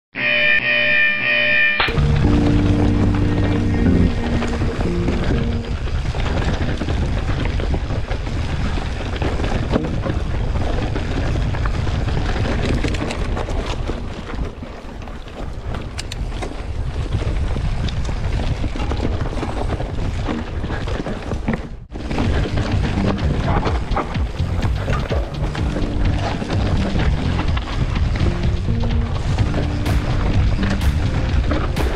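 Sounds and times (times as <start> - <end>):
wind buffeting microphone: 4.2 - 31.9
bike rattling clicks: 5.6 - 31.9.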